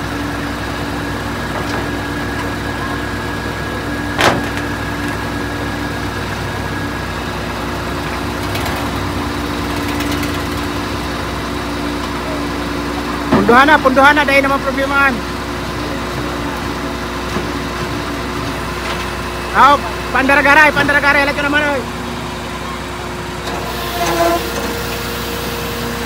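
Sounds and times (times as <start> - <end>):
constant whine: 0.0 - 26.0
truck diesel engine running: 0.0 - 26.0.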